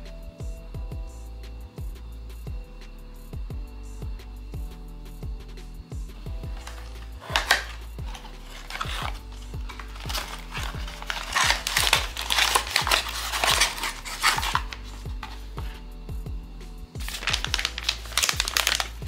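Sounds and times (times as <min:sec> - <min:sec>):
background music with steady beat: 0:00.0 - 0:19.0.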